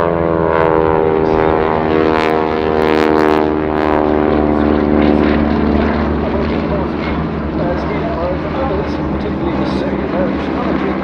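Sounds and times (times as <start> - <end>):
propeller aircraft droning: 0.0 - 11.0.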